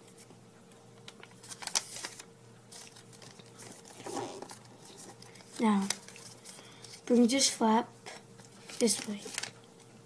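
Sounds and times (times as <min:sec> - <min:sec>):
paper rustling and crinkling: 0:01.1 - 0:07.5, 0:08.1 - 0:09.9.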